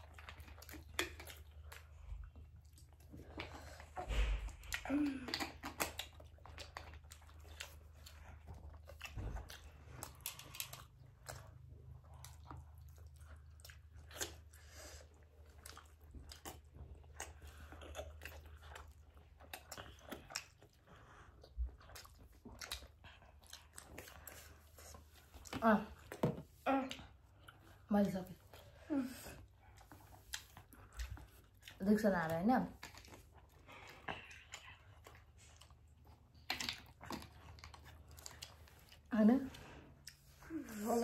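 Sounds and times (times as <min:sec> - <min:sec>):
people chewing: 0:00.0 - 0:41.0.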